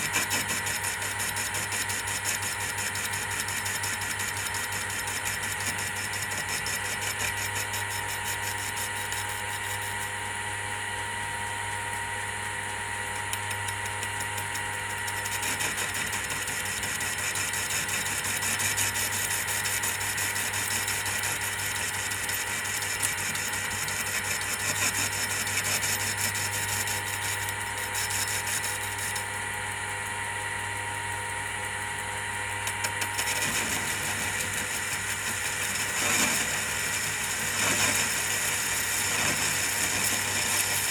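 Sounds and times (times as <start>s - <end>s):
lathe motor hum and whine: 0.0s - 40.9s.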